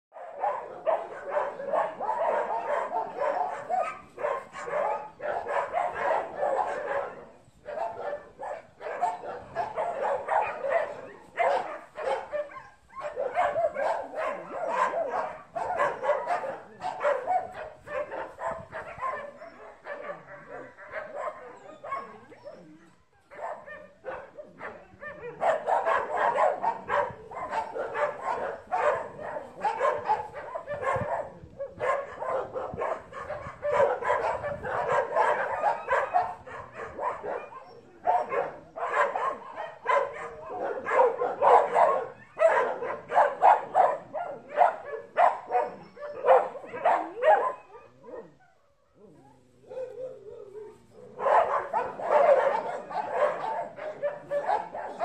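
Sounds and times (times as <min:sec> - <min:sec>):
dog barking rapidly: 0:00.2 - 0:22.2, 0:23.3 - 0:48.3, 0:51.1 - 0:55.0.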